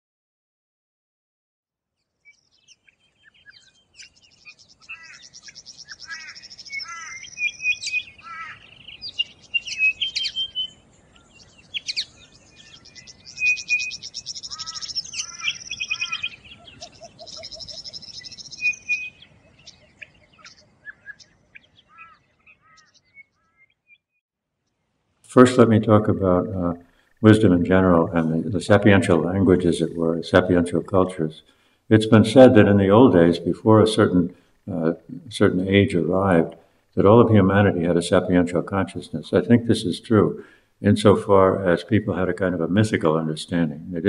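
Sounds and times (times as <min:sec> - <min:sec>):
songbirds singing: 0:02.0 - 0:44.0.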